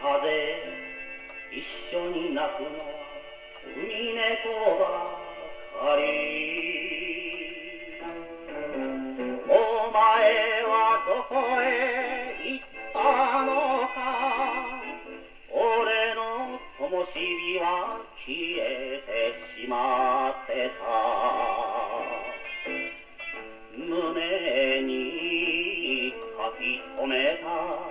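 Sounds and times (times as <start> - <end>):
gramophone playing popular song: 0.0 - 27.9.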